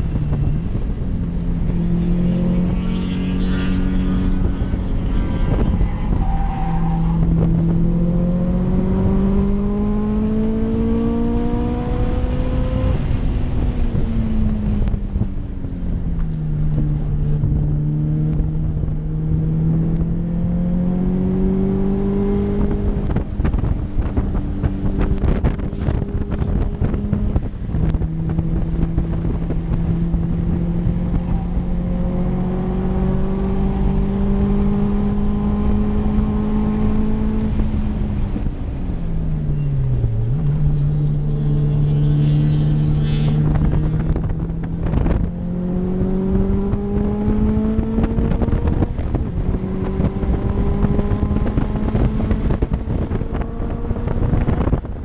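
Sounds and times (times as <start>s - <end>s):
car engine cruising: 0.0s - 55.0s.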